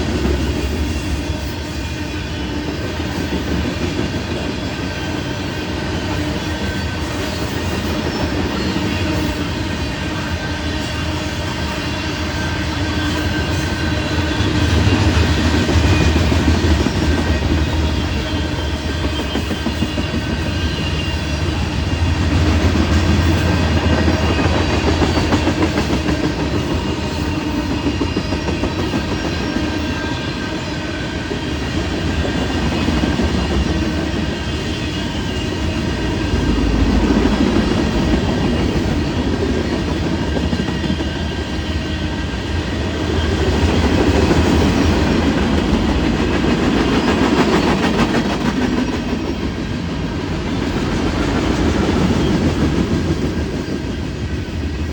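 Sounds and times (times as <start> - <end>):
freight train wheels clicking on rails: 0.0 - 54.9.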